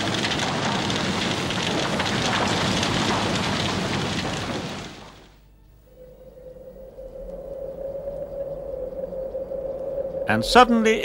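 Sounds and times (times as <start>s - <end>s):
fire crackling: 0.0s - 11.0s.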